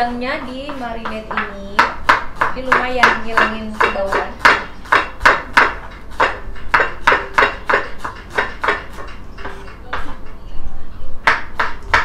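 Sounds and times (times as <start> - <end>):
knife chopping on wooden board: 0.4 - 10.2, 11.2 - 12.0.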